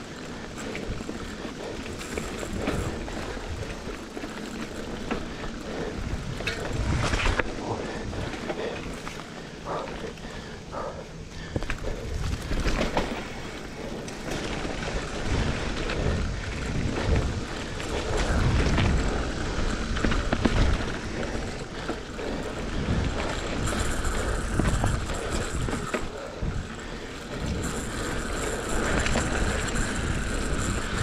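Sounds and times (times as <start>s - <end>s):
bike rattling over bumps: 0.0s - 31.0s
tyres rolling on dirt: 0.0s - 31.0s
wind buffeting microphone: 0.0s - 31.0s.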